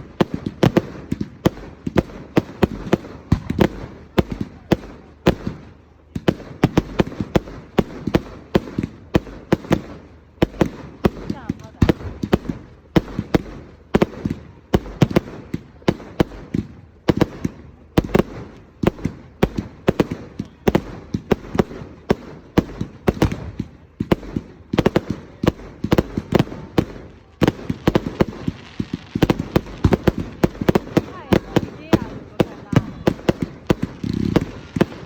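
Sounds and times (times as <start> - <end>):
fireworks bangs: 0.0 - 35.0.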